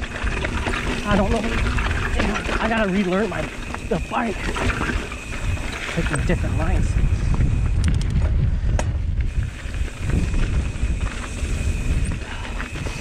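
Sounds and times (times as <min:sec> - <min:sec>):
bike rattling clicks: 0:00.0 - 0:13.0
wind buffeting microphone: 0:00.0 - 0:13.0.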